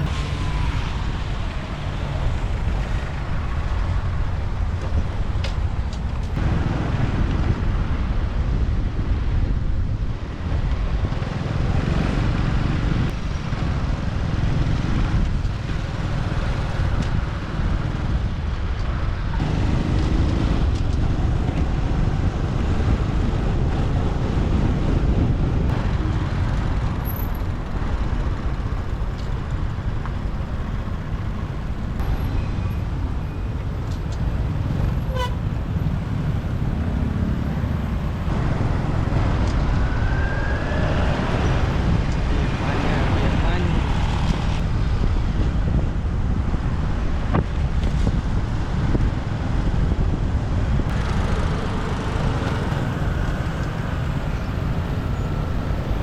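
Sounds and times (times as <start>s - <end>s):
city traffic: 0.0s - 56.0s
wind rumble on microphone: 0.0s - 56.0s.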